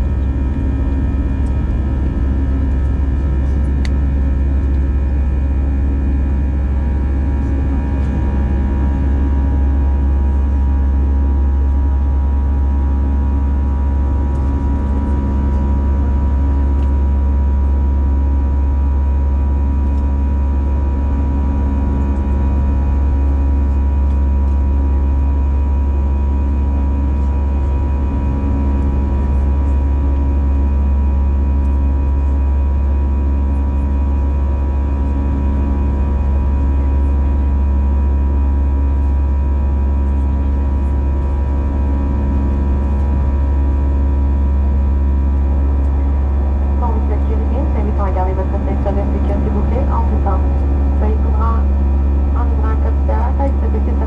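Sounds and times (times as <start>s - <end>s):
aircraft cabin engine rumble: 0.0s - 54.0s
steady hum: 0.0s - 54.0s.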